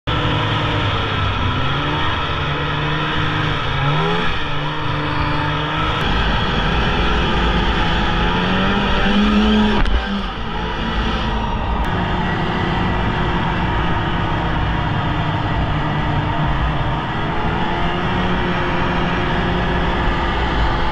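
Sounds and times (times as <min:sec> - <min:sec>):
snowmobile engine running: 0:00.0 - 0:20.9.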